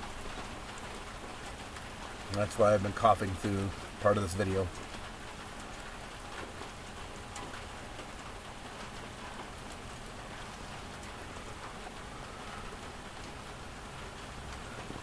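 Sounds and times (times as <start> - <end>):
rain pouring on a roof: 0.0 - 15.0.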